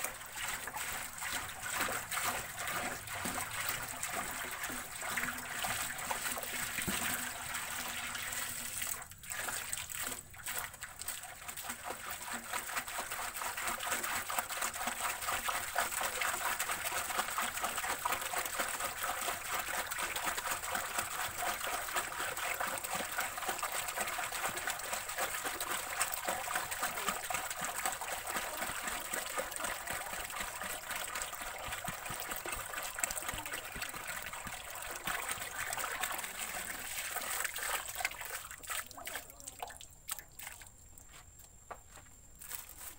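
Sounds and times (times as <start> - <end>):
liquid pouring and splashing: 0.0 - 41.2.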